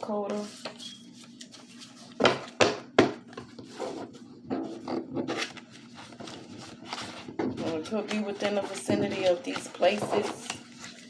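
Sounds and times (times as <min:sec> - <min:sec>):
cards tapping and rustling: 0:01.4 - 0:11.0.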